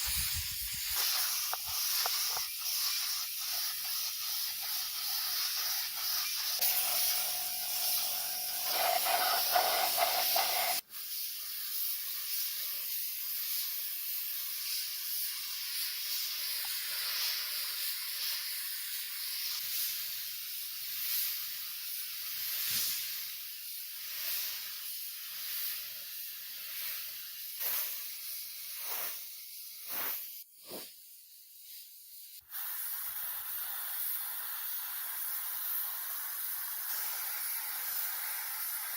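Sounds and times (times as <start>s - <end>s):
air spray hissing: 0.0s - 38.9s.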